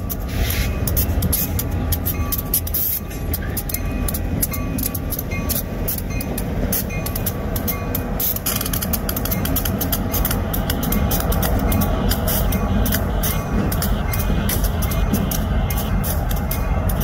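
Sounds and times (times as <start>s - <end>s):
diesel locomotives rumbling: 0.0s - 17.0s
sharp metallic dings and clicks: 0.0s - 17.0s.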